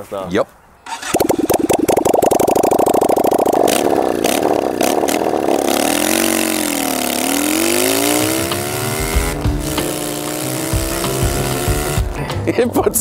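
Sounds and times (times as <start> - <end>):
motorcycle engine revving: 0.9 - 12.2.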